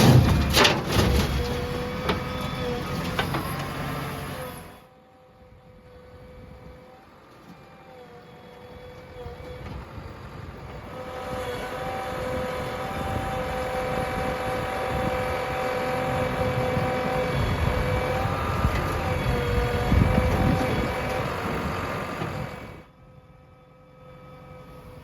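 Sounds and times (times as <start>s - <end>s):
diesel engine running with whine: 0.0s - 25.0s.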